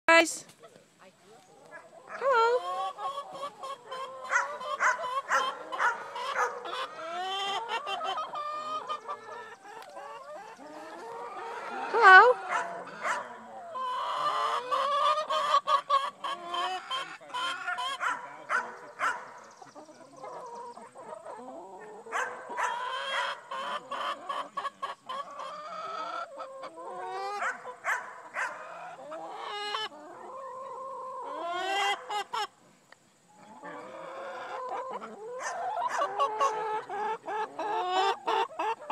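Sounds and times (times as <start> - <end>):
chickens clucking and squawking: 0.2 - 38.9.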